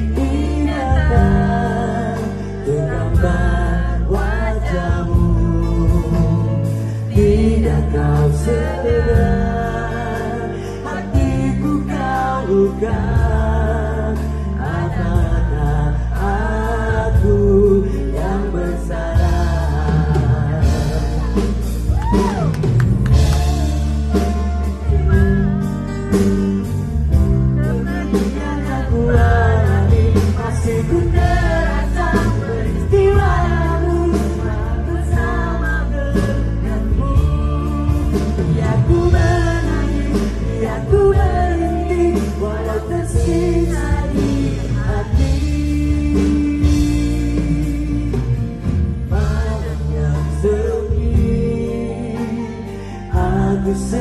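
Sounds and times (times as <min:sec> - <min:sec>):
man singing into a microphone: 0:00.0 - 0:22.5, 0:27.6 - 0:54.0
bass: 0:00.0 - 0:54.0
drums: 0:00.0 - 0:54.0.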